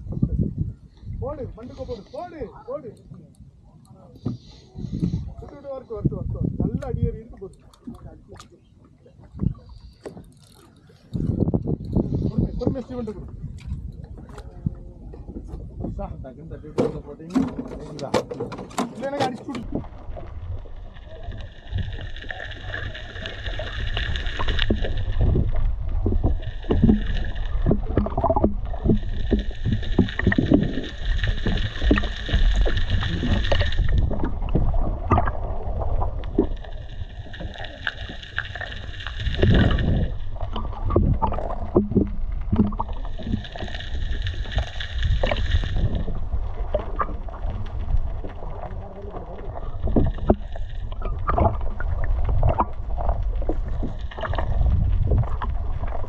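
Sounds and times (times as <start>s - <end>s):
low rumble of wind and sea: 0.0s - 56.0s.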